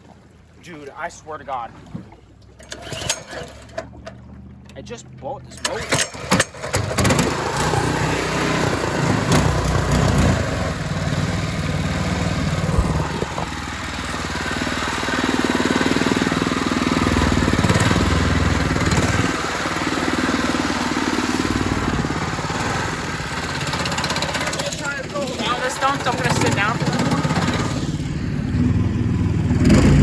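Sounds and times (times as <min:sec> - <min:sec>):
small boat engine running: 0:00.0 - 0:30.0.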